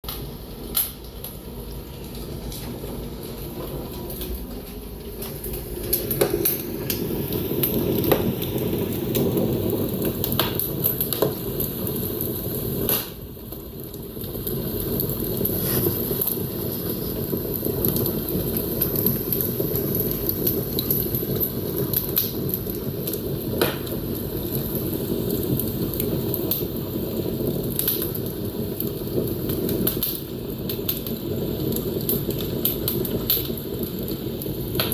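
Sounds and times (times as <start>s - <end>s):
fire crackling and popping: 0.0s - 34.9s
fire flames rushing: 0.1s - 34.9s.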